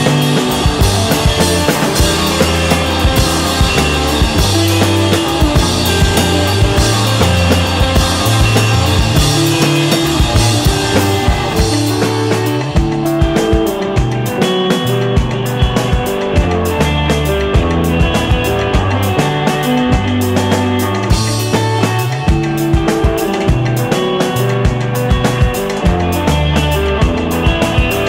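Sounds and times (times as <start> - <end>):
bass line: 0.0 - 28.0
drum kit beat: 0.0 - 28.0.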